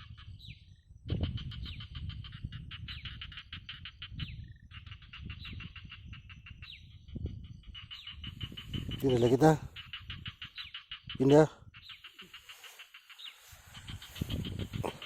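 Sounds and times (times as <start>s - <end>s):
rapid pulsed animal calls: 0.0s - 15.0s.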